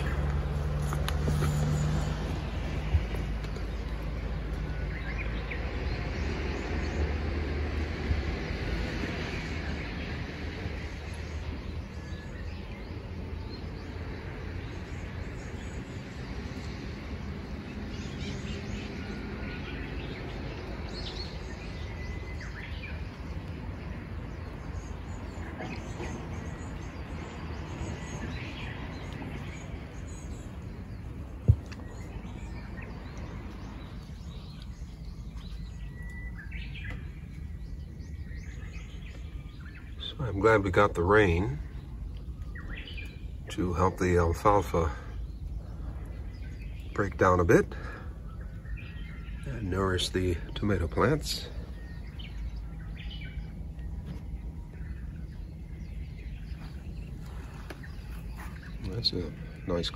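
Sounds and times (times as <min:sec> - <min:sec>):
birds chirping: 0:00.0 - 0:59.9
low outdoor rumble: 0:00.0 - 0:59.9.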